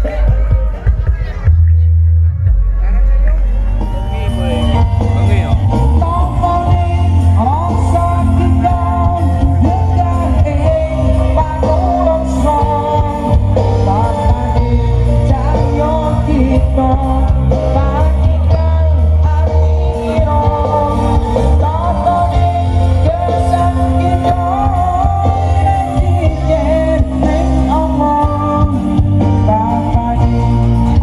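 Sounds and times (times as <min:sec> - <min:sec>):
loud music with singer and bass: 0:00.0 - 0:31.0.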